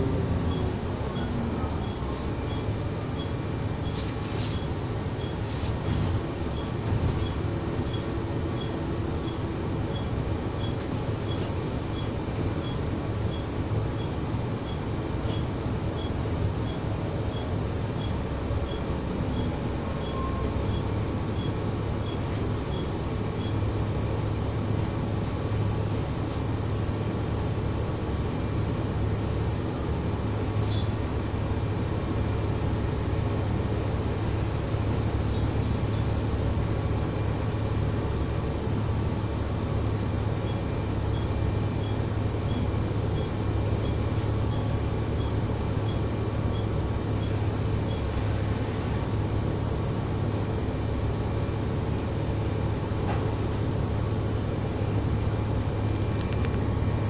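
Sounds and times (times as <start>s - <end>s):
bus engine drone: 0.0s - 57.0s
road noise: 0.0s - 57.0s.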